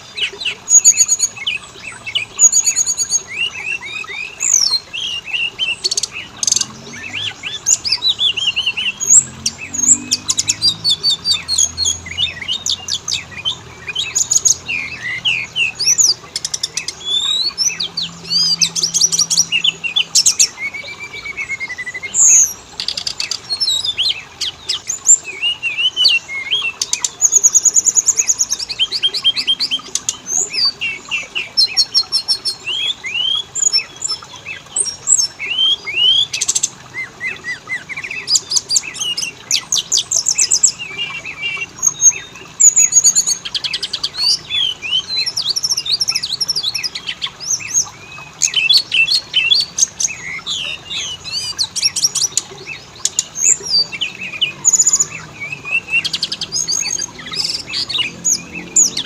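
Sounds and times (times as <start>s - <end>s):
bird singing and trilling: 0.0s - 59.0s.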